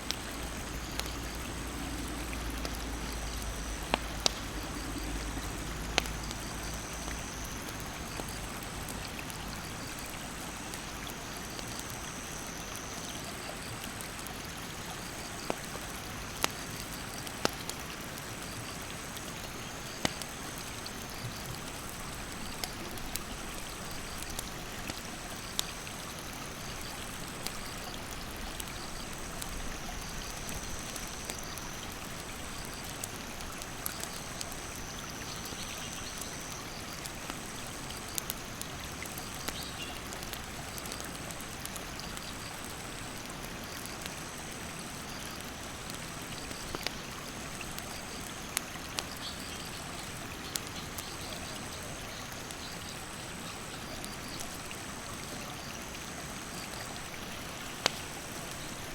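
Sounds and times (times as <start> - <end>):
campfire pops: 0.1 - 12.9, 15.3 - 53.0, 56.4 - 58.9.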